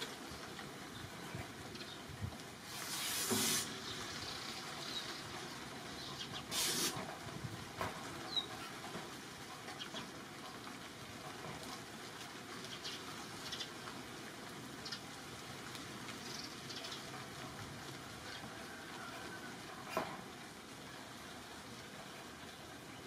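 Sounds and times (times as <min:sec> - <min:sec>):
leaves rustling: 0:00.0 - 0:23.0
steady outdoor hiss: 0:00.0 - 0:23.0.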